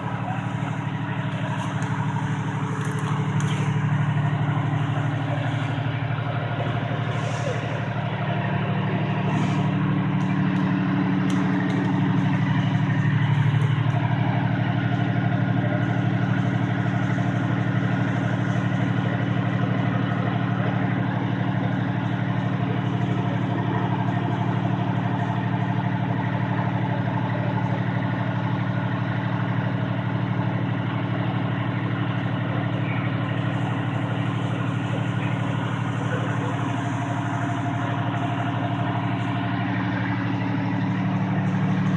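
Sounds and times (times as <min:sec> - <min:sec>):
large vehicle engine idling: 0:00.0 - 0:41.9.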